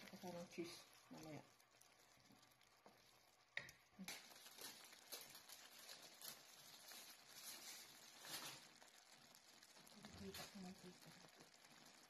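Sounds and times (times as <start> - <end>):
sauce simmering in a frying pan: 0.0 - 12.0
spatula stirring and scraping: 0.0 - 12.0.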